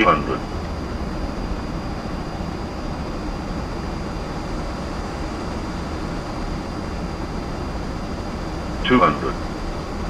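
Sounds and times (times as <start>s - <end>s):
cockpit airflow and engine noise: 0.0s - 10.0s
faint high whine: 0.0s - 10.0s.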